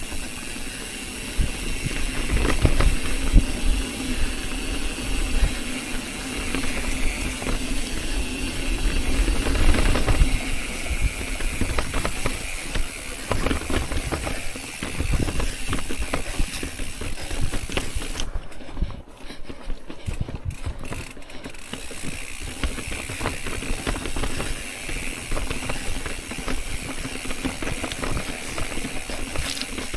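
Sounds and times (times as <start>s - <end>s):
bike freehub ticking: 0.0s - 29.9s
bike rattling over rocks: 0.0s - 29.9s
wind and rolling noise: 0.0s - 29.9s.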